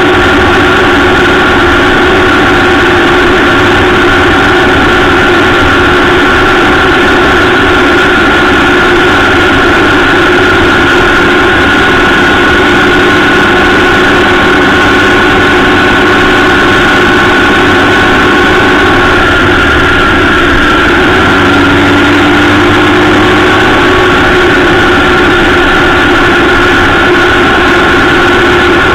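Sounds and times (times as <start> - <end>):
motorcycle engine running: 0.0 - 28.9
wind and tyre noise: 0.0 - 28.9.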